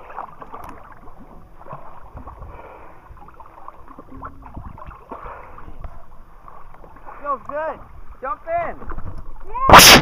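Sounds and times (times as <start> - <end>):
seawater sloshing and gurgling: 0.0 - 10.0.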